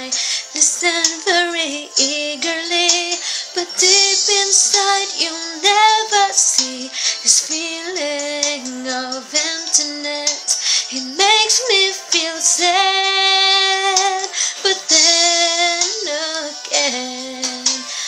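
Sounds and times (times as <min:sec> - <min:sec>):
woman singing with vibrato: 0:00.0 - 0:17.9.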